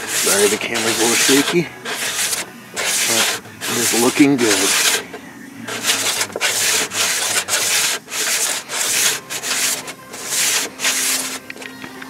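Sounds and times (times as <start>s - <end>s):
sandpaper rubbing back and forth: 0.0s - 11.6s.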